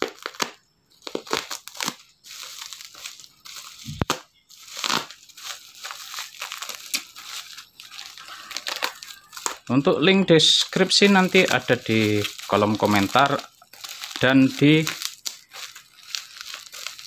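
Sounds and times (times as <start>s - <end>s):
plastic crinkling and tearing: 0.0s - 17.0s.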